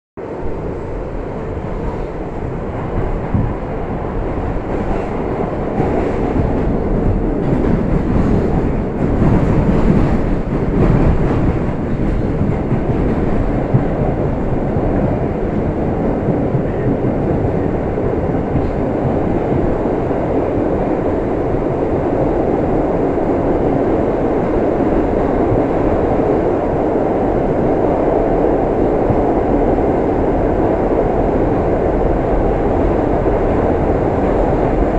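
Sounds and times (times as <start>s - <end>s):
subway train rumbling: 0.2s - 34.9s.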